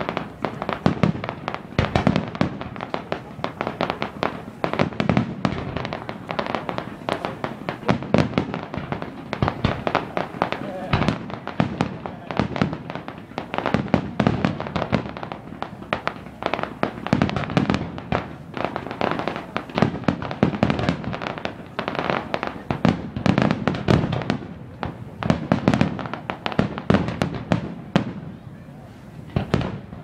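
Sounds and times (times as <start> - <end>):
fireworks bursts and crackles: 0.0 - 30.0.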